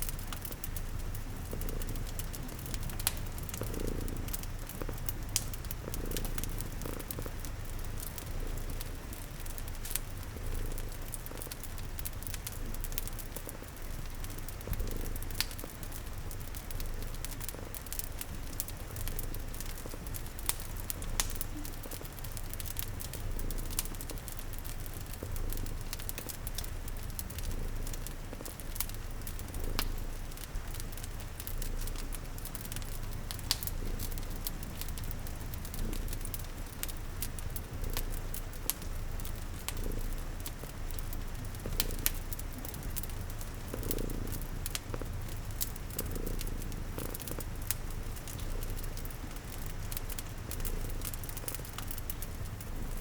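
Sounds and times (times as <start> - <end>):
cat purring: 0.0 - 53.0
fire crackling: 0.0 - 53.0.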